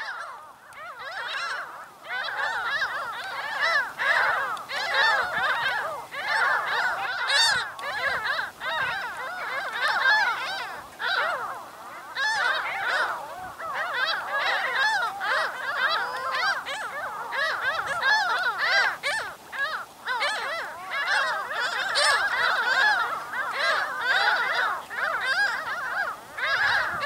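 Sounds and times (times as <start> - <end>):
gulls calling: 0.0 - 27.0.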